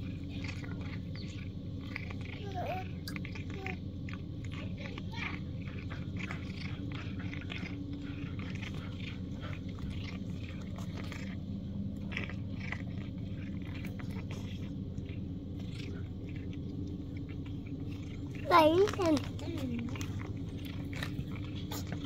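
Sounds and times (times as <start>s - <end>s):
cat chewing and crunching: 0.0s - 22.0s
steady low hum: 0.0s - 22.0s.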